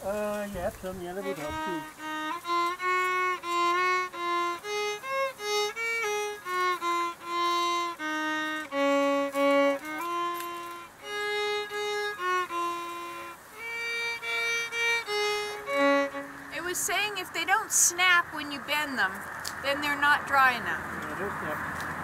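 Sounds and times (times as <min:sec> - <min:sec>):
solo violin melody: 0:00.1 - 0:19.0.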